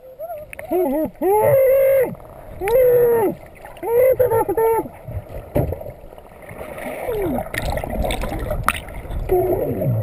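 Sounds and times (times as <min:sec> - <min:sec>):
muffled squeals underwater: 0:00.0 - 0:10.0
water rushing: 0:00.0 - 0:10.0.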